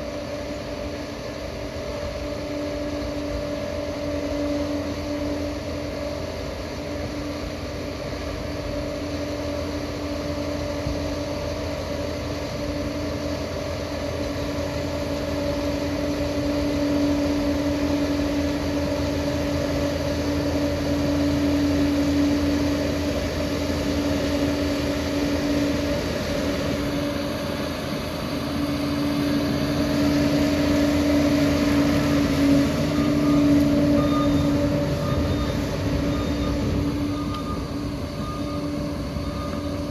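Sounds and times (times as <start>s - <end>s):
vehicle running with low hum: 0.0s - 39.9s.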